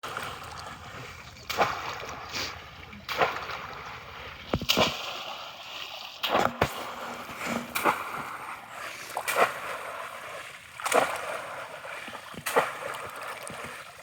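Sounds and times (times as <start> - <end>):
splashes in water: 0.0 - 14.0.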